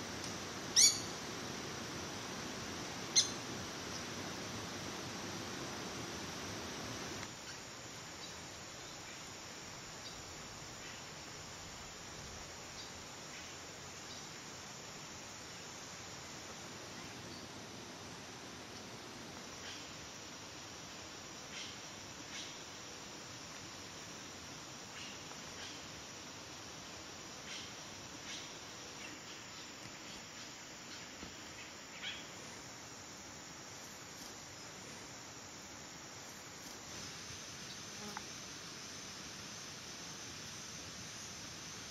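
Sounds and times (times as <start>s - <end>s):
insect chorus hiss: 0.0s - 41.9s.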